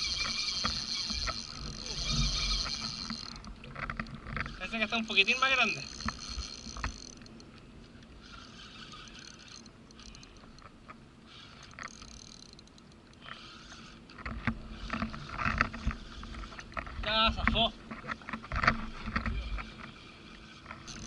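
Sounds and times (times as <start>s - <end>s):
fishing reel whirring: 0.0s - 7.5s, 8.1s - 17.4s, 18.2s - 21.0s.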